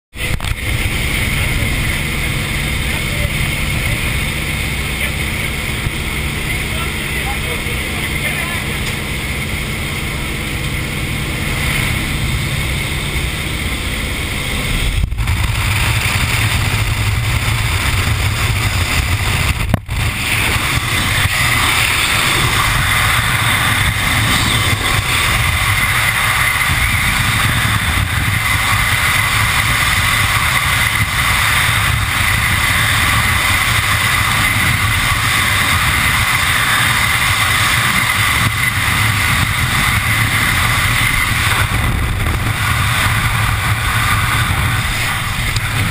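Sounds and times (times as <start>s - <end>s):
aircraft cabin noise: 0.2s - 45.9s
freefall wind rushing: 0.2s - 45.9s.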